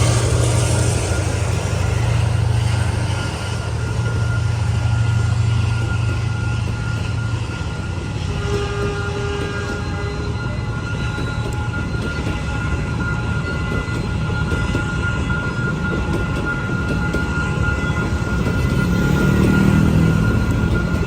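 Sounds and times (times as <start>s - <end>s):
locomotive engine drone: 0.0s - 21.0s
train rolling: 0.0s - 21.0s.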